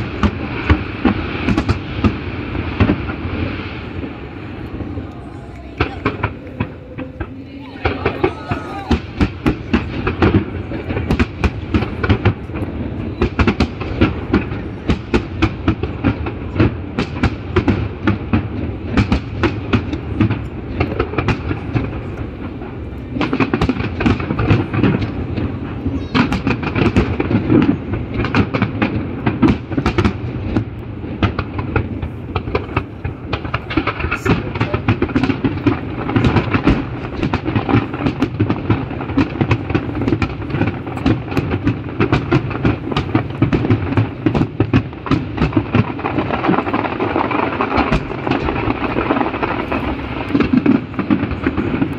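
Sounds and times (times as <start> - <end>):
fireworks barrage bangs and crackles: 0.0 - 51.9.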